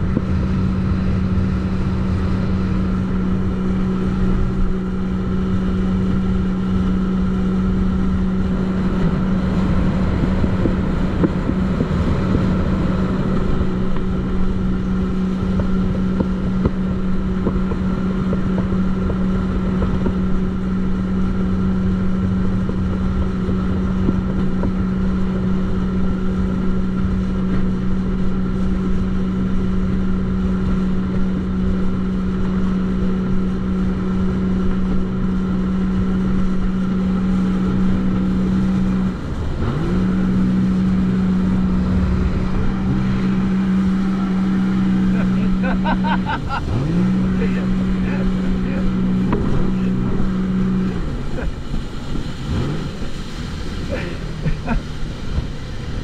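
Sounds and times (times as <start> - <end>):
jetski engine running: 0.0 - 56.0
wind and water rushing: 0.0 - 56.0.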